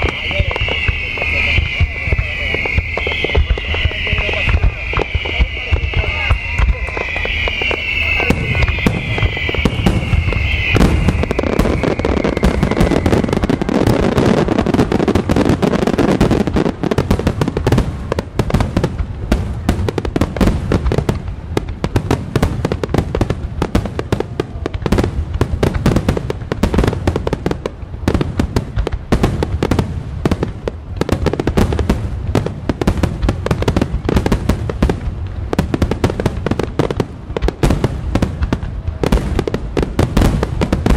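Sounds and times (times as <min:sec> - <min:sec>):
fireworks bursts and crackles: 0:00.0 - 0:40.9
fireworks whistling down: 0:00.0 - 0:40.9.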